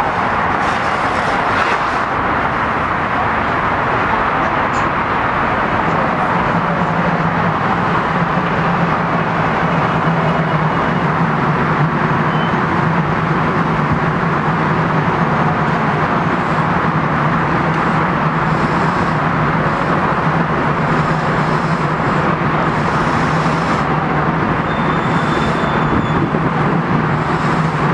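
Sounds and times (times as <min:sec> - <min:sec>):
loud vehicle noise: 0:00.0 - 0:27.9.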